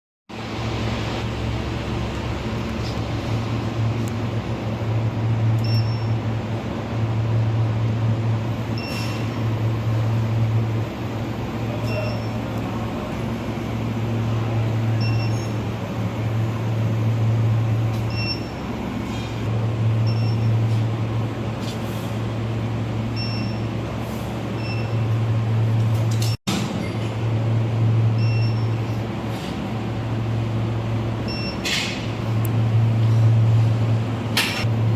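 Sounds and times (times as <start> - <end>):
furnace hum and hiss: 0.3 - 34.9.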